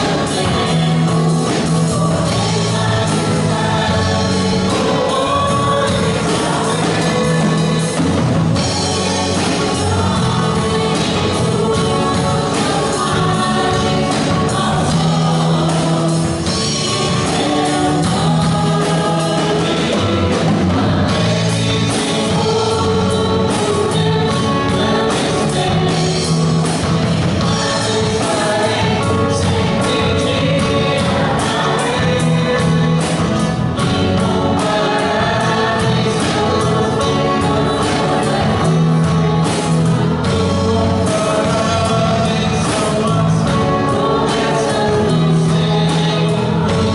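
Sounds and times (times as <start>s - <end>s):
band playing: 0.0s - 46.9s
man and woman singing: 0.0s - 46.9s.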